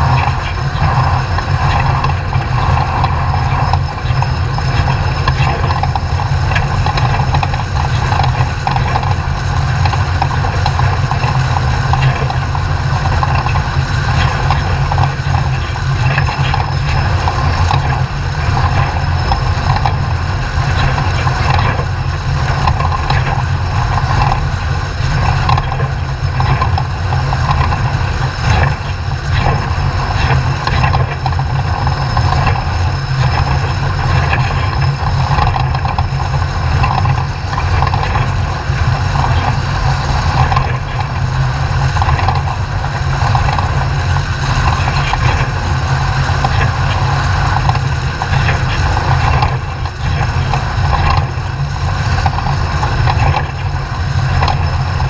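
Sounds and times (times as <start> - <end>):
truck engine drone: 0.0 - 55.0.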